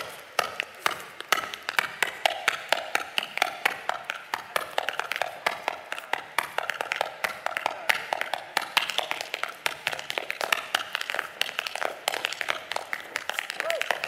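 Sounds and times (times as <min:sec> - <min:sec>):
tap shoes on hard stage floor: 0:00.0 - 0:14.0.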